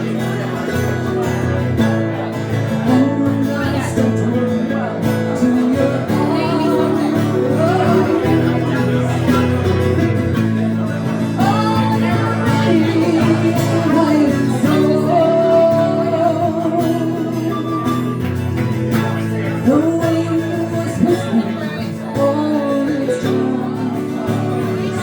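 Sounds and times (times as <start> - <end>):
acoustic guitar accompaniment: 0.0 - 25.0.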